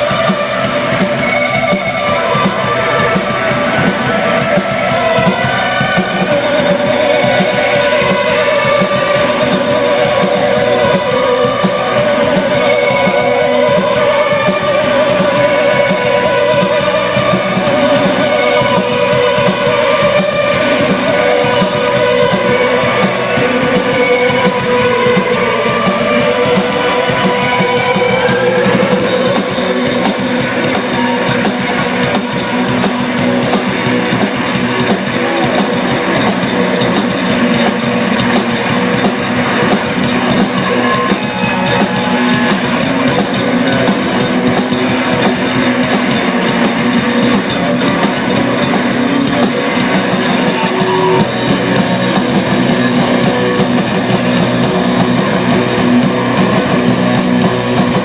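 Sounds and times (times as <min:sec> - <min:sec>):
drum kit: 0:00.0 - 0:58.0
electric guitars: 0:00.0 - 0:58.0
wavering held guitar tones: 0:00.0 - 0:58.0.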